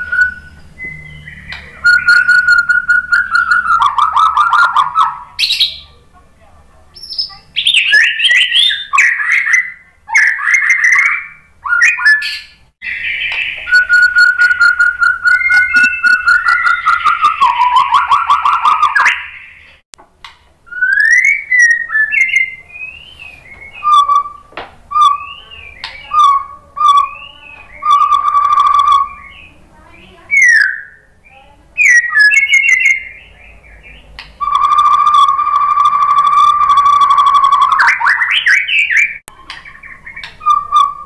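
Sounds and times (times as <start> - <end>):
bird singing whistled song: 0.0 - 5.9, 7.0 - 19.8, 20.7 - 41.0.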